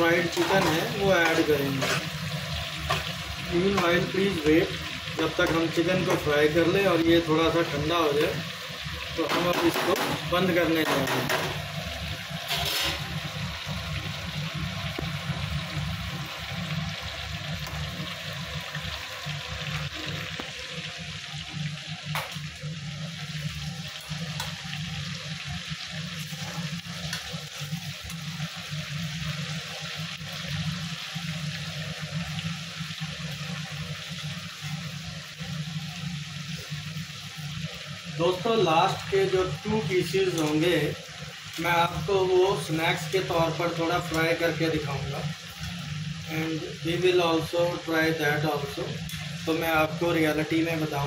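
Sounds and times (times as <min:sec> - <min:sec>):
chicken sizzling in hot oil: 0:00.0 - 0:51.0.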